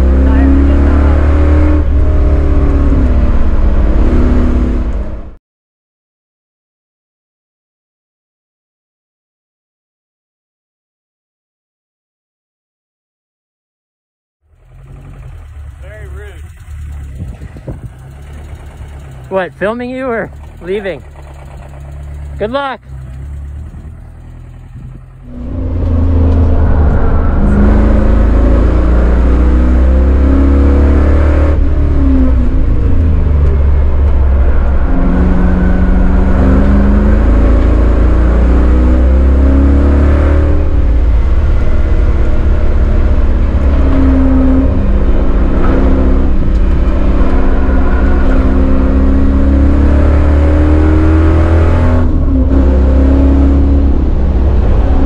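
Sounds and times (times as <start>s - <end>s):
car engine accelerating hard: 0.0s - 5.4s, 14.5s - 55.0s.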